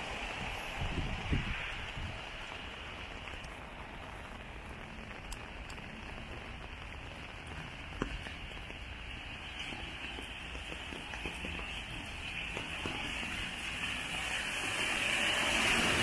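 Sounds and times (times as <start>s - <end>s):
rain on wet street: 0.0s - 16.0s
raindrop ticks: 1.2s - 14.4s.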